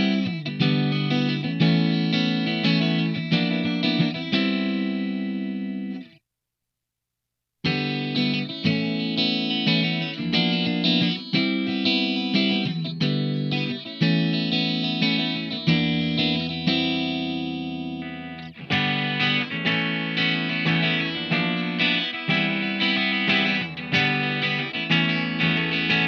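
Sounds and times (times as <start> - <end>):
electric guitar through an amp: 0.0 - 6.1, 7.6 - 26.0.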